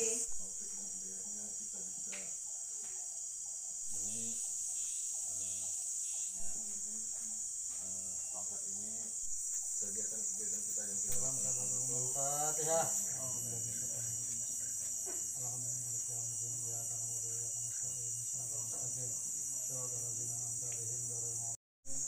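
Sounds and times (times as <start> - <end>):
insects chirring: 0.0 - 22.0
quiet indistinct conversation: 0.0 - 22.0.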